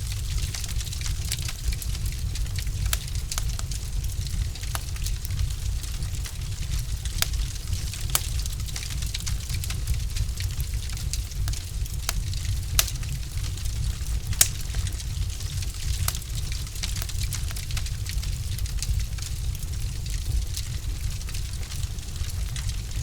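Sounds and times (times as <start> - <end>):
fire crackling and popping: 0.0 - 23.0
low rumble of fire: 0.0 - 23.0.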